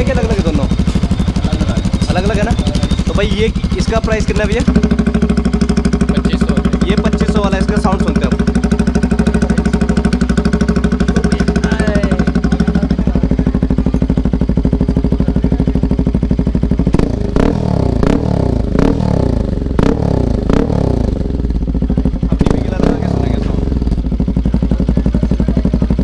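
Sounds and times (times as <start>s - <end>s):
engine throttle blips: 0.0s - 26.0s
motorcycle engine idling: 0.0s - 26.0s.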